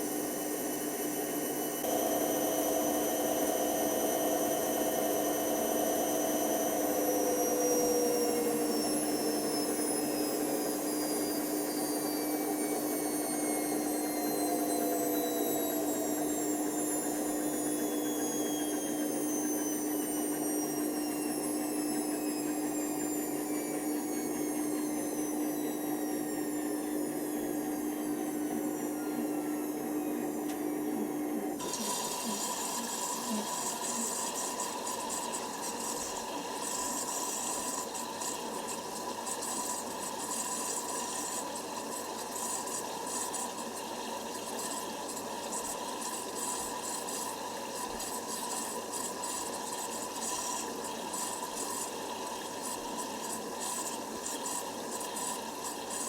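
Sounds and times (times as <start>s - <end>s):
washing machine motor hum: 0.0s - 56.0s
water running into machine: 0.0s - 56.0s.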